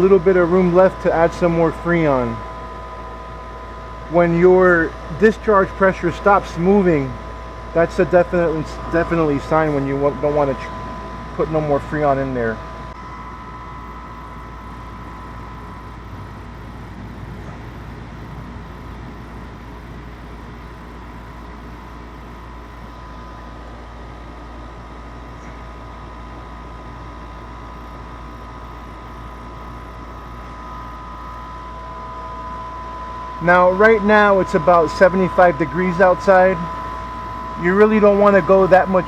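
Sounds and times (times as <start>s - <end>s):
condensing unit humming: 0.0s - 39.0s
faint steady whine: 0.0s - 39.0s.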